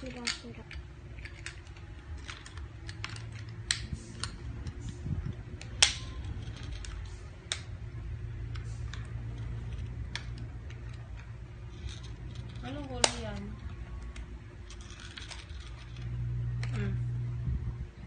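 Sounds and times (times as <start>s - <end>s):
plastic toy pieces clicking: 0.0s - 4.8s, 5.6s - 7.7s, 8.5s - 16.0s.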